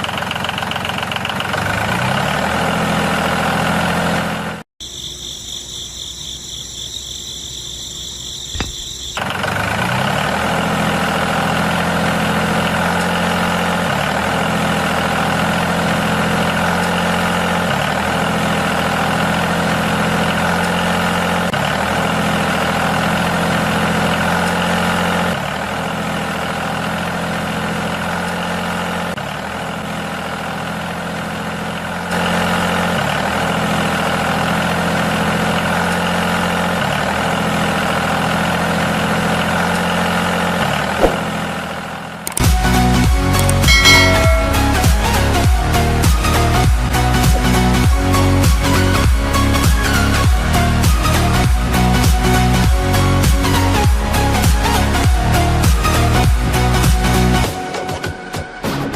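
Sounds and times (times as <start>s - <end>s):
engine idling: 0.0s - 5.6s, 6.7s - 57.4s.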